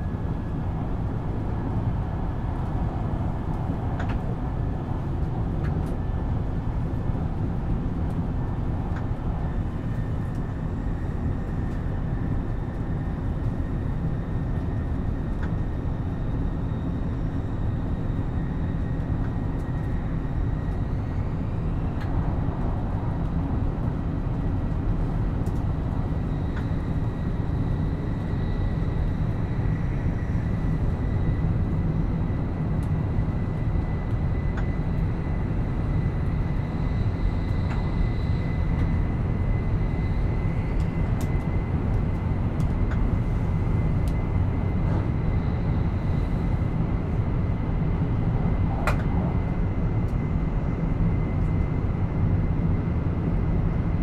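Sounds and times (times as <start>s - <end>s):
high train whine: 0.0s - 54.0s
train interior rumble: 0.0s - 54.0s.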